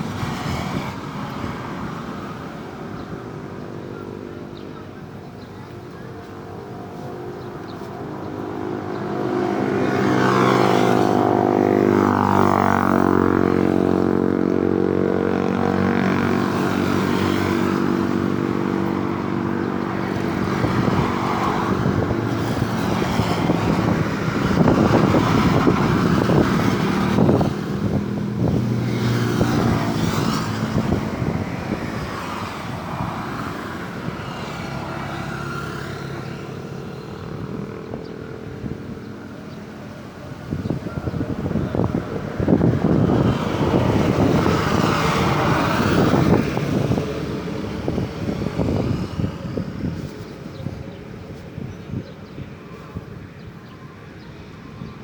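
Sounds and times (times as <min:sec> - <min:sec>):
vehicles passing close by: 0:00.0 - 0:55.0.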